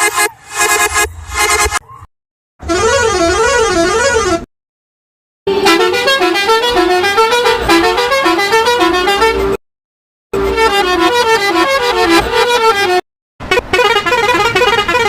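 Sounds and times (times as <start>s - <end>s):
musical horn playing a tune: 0.0s - 1.8s, 2.6s - 4.5s, 5.5s - 9.6s, 10.4s - 15.0s
warbling vehicle horn: 0.0s - 1.8s, 2.6s - 4.5s, 5.5s - 9.6s, 10.4s - 15.0s.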